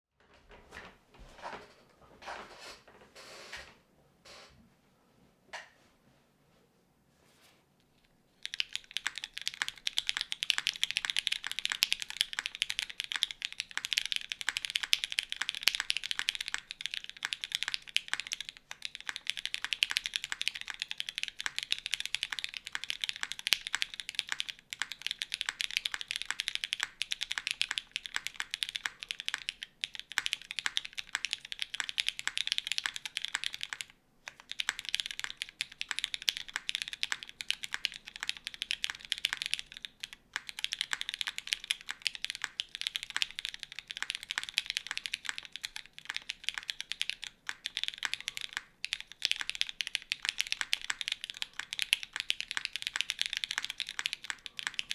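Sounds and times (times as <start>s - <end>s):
mechanical keyboard typing: 8.4s - 54.9s.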